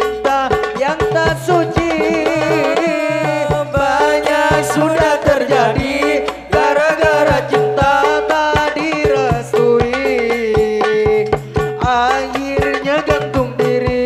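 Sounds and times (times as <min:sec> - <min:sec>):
frame drums beating rhythm: 0:00.0 - 0:14.0
held melody line: 0:00.0 - 0:14.0.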